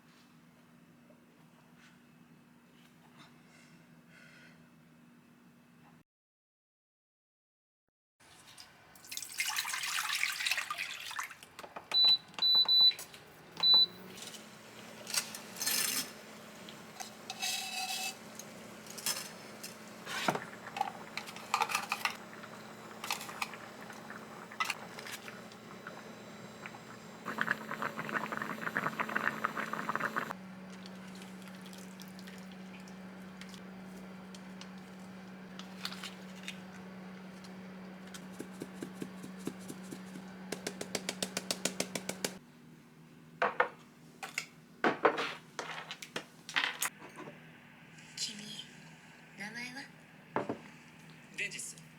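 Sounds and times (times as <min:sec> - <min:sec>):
low appliance hum: 0:08.3 - 0:51.9.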